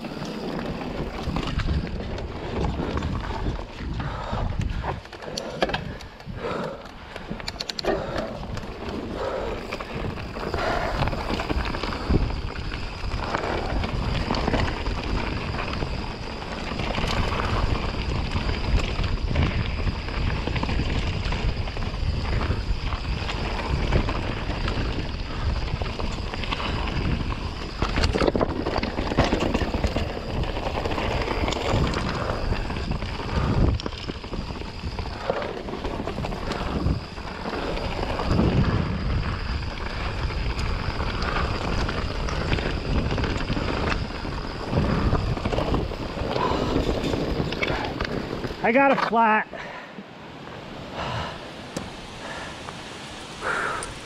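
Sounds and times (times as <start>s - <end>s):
bike clattering and rattling: 0.0s - 49.2s
bike tyres rumbling over dirt: 0.0s - 54.0s
wind buffeting microphone: 0.0s - 54.0s.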